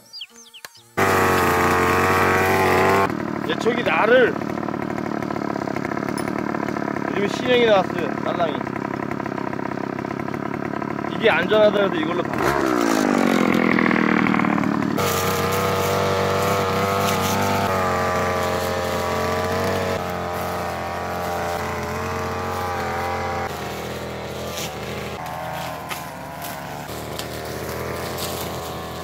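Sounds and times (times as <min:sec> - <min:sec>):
brush cutter engine running: 0:00.1 - 0:29.0.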